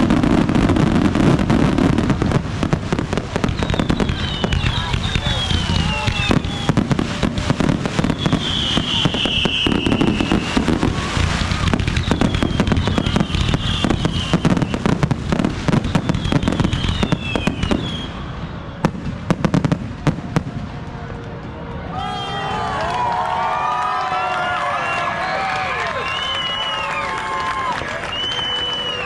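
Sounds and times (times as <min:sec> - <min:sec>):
fireworks bangs and crackling: 0:00.0 - 0:24.6, 0:25.2 - 0:29.0.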